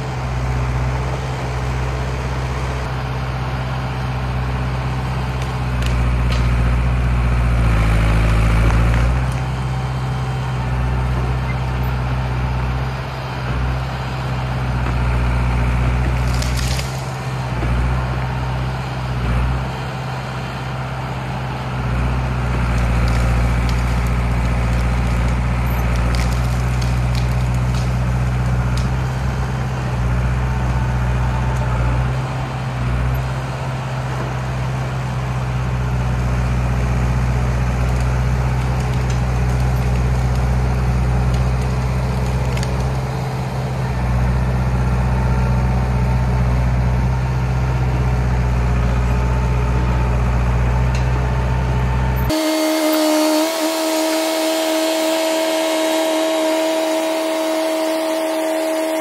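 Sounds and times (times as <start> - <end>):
bulldozer engine running under load: 0.0 - 59.0.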